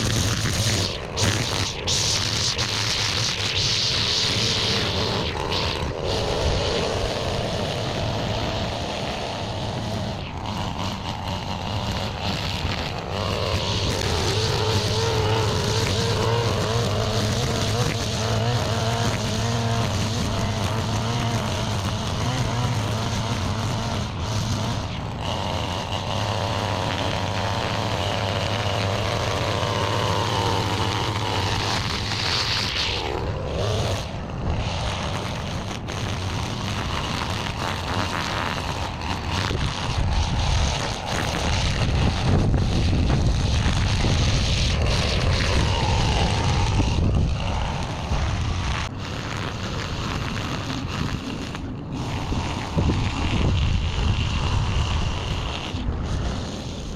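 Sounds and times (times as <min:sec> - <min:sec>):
small petrol engine running: 0:00.0 - 0:56.9.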